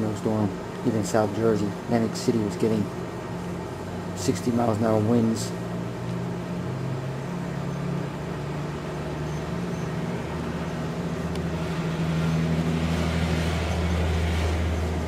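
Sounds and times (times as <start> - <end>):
low engine hum of traffic: 0.0 - 15.0
vehicle passing: 0.0 - 15.0.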